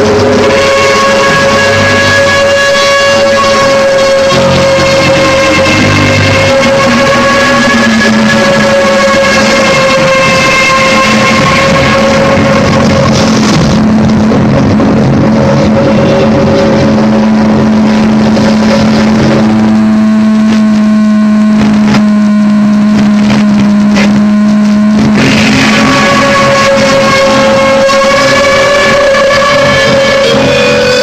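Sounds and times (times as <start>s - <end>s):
distorted electric guitar noise: 0.0s - 31.0s
high feedback tones: 0.0s - 31.0s
low held drone: 0.0s - 31.0s.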